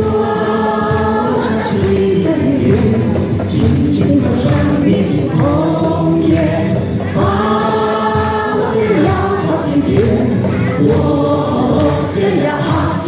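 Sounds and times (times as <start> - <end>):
mixed choir singing folk song: 0.0 - 13.0.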